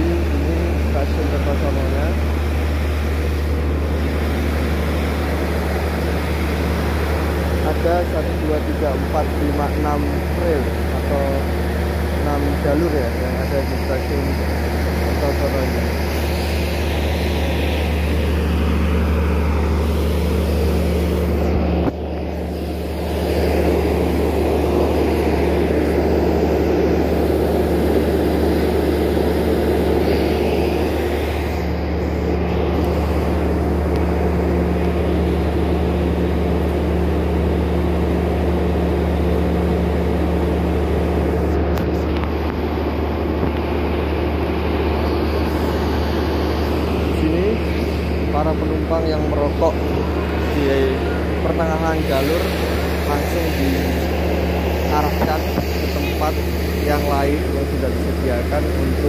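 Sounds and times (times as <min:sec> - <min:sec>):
train diesel engines idling: 0:00.0 - 0:59.0.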